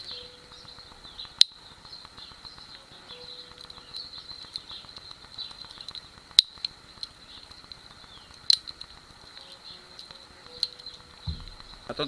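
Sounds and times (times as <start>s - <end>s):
bird chirps: 0.0s - 12.0s
insect chorus: 0.0s - 12.0s.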